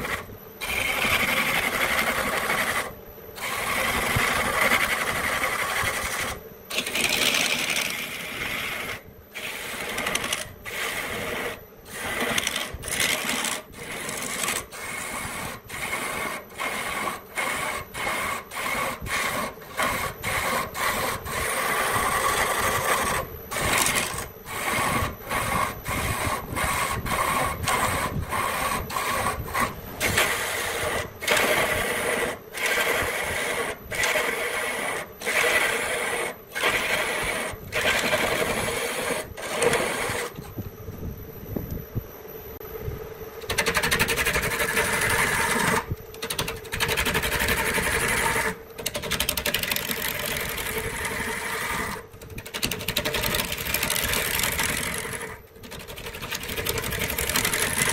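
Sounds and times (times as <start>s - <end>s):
tool scraping wood: 0.0s - 40.5s, 43.5s - 57.9s.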